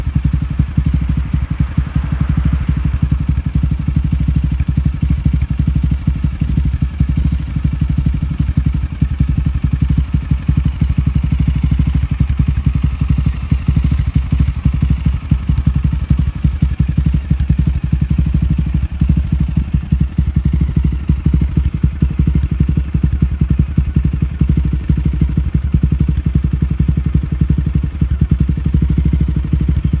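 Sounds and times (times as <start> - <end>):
single-cylinder engine running: 0.0 - 30.0.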